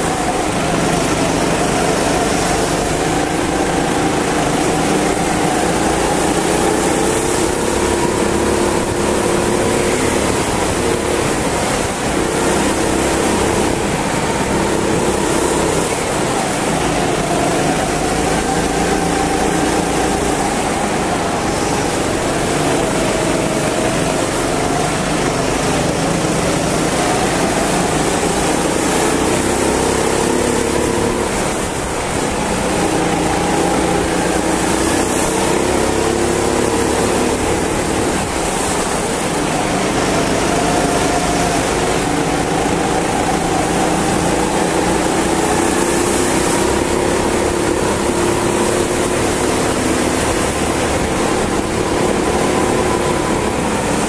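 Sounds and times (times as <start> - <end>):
go-kart engine revving: 0.0 - 54.0
steady rush of noise: 0.0 - 54.0.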